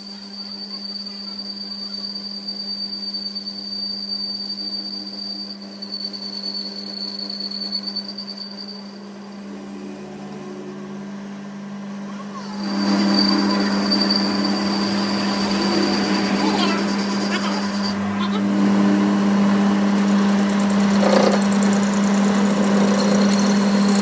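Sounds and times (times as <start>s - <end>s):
thin high whine: 0.0s - 24.0s
machine low hum: 4.6s - 24.0s.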